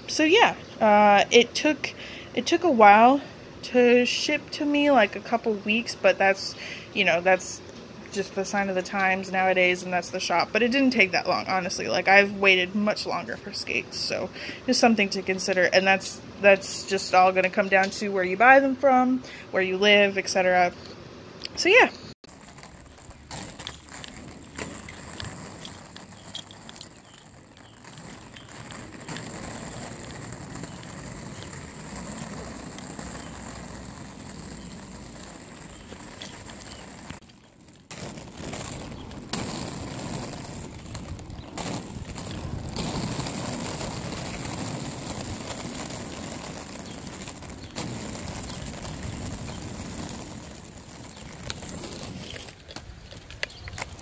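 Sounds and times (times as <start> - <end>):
skate wheels rolling on asphalt: 0.0 - 21.0, 21.6 - 54.0.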